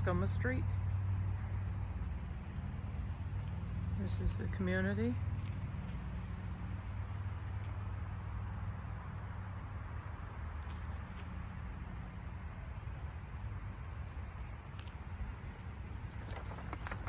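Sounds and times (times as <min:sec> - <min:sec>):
insects chirping: 0:00.0 - 0:17.0
low traffic rumble: 0:00.0 - 0:17.0.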